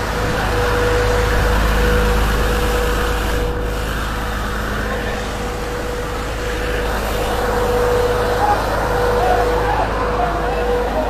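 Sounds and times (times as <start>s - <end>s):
thin steady whine: 0.0s - 11.0s
truck engine rumbling: 0.0s - 11.0s.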